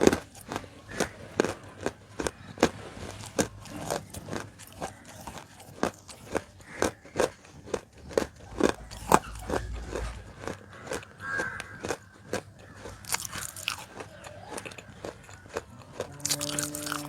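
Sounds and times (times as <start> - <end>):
dry crunchy chewing: 0.0 - 17.0.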